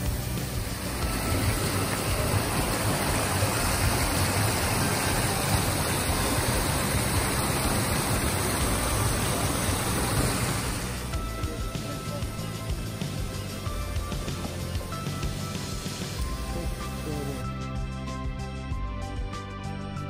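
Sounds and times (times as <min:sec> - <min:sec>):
stream rushing over stone weir: 0:00.0 - 0:17.4.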